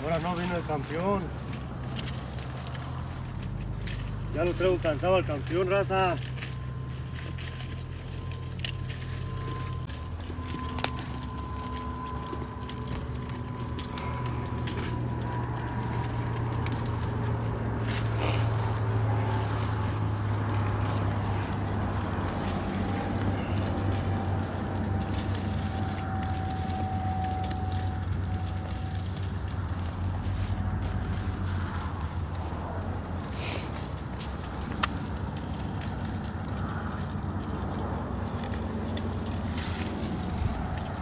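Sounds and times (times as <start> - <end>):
branches and leaves rustling: 0.0 - 41.0
vehicle engine running: 0.0 - 41.0.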